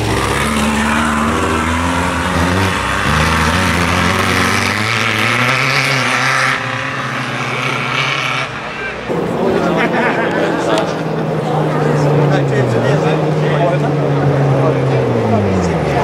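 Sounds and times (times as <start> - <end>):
buggy engines revving hard: 0.0 - 16.0.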